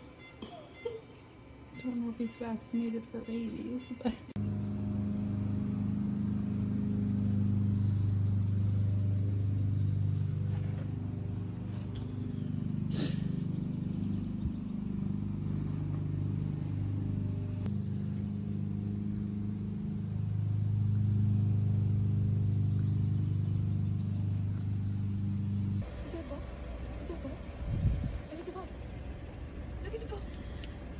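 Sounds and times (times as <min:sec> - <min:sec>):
vehicle engine idling: 0:04.3 - 0:30.9.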